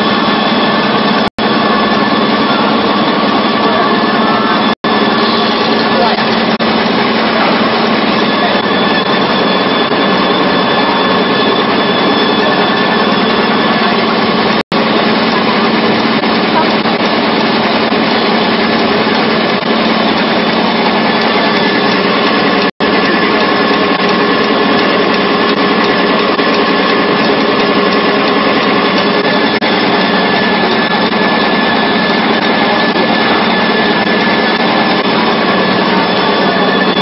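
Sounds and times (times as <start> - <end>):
machine running with hum: 0.0 - 37.0.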